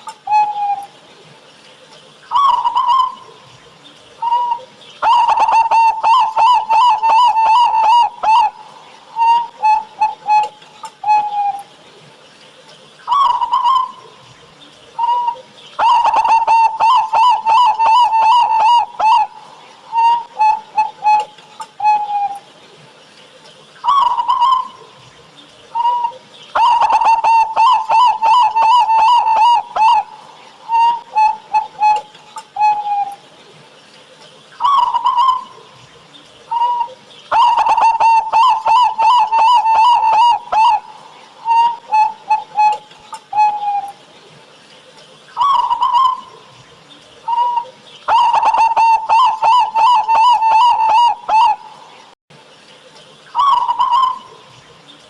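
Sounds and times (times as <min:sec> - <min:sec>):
dove cooing: 0:00.0 - 0:01.0, 0:02.3 - 0:11.7, 0:13.1 - 0:22.5, 0:23.8 - 0:33.3, 0:34.6 - 0:44.0, 0:45.4 - 0:52.1, 0:53.4 - 0:55.0.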